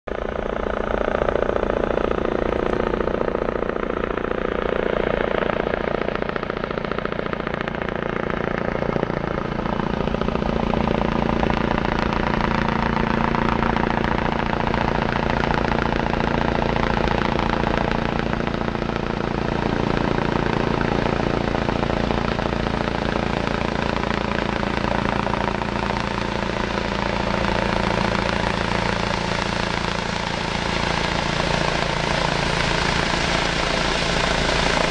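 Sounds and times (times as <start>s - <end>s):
helicopter flying overhead: 0.1s - 34.9s.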